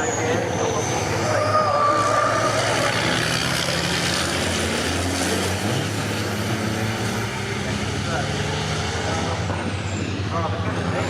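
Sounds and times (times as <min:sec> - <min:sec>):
racing trucks roaring past: 0:00.0 - 0:11.0.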